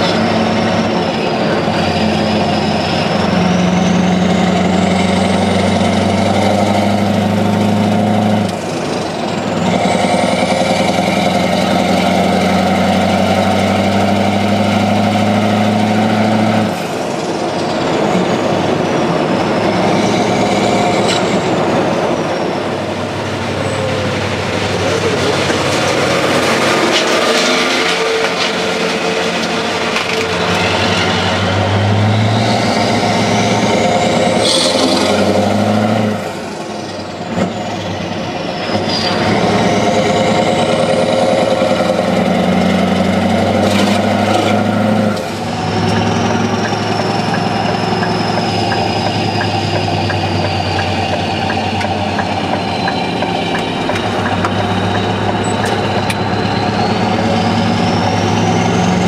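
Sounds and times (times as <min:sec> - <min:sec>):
truck diesel engine driving: 0:00.0 - 0:59.0.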